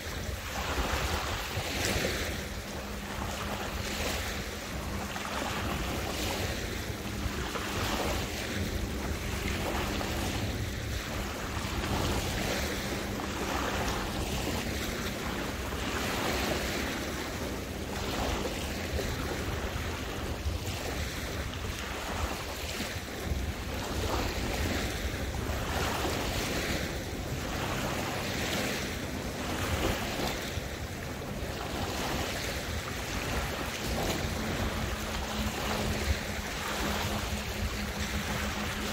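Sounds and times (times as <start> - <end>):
water lapping and splashing: 0.0 - 38.9
wind buffeting microphone: 0.0 - 38.9.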